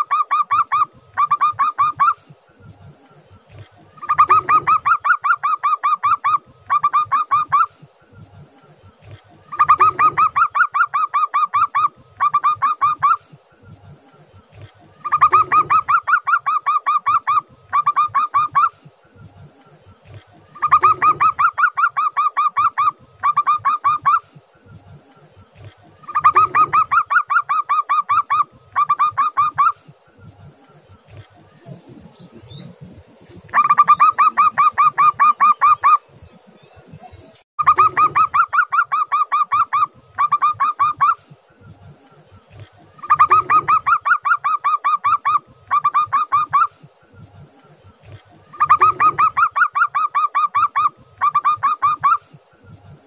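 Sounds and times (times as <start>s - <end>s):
dove cooing: 0.0s - 2.4s, 3.4s - 8.0s, 9.0s - 13.5s, 14.4s - 19.0s, 20.0s - 24.5s, 25.5s - 36.1s, 37.6s - 41.4s, 42.5s - 47.0s, 48.0s - 52.4s.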